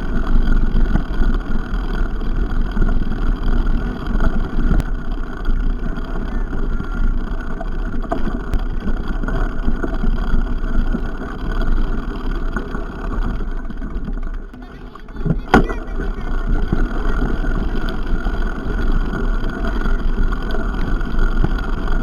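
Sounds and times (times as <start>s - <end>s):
mountain bike rolling on trail: 0.0s - 22.0s
rumbling wind: 0.0s - 22.0s.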